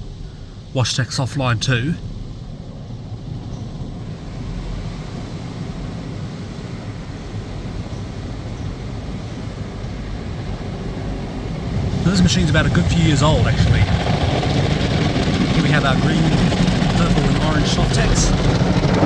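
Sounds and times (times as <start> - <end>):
car wash rushing: 0.0 - 19.0
low rumble: 0.0 - 19.0.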